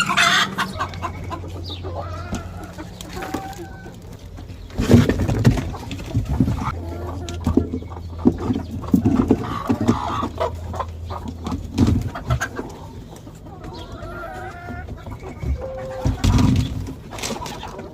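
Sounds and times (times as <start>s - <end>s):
chickens clucking: 0.0s - 17.9s
drawn-out chicken call: 0.0s - 17.9s.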